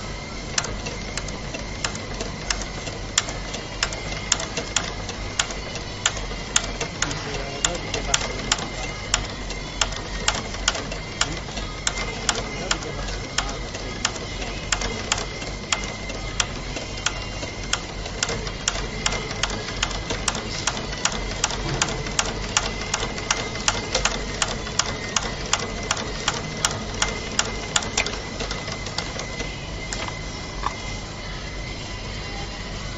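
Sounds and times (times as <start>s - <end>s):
sewing machine whine: 0.0s - 32.9s
sewing machine needle clicks: 0.6s - 29.2s.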